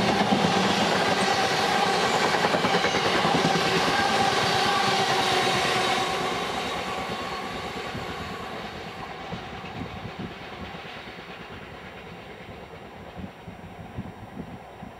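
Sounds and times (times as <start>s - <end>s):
freight train wheels on rails: 0.0s - 14.9s.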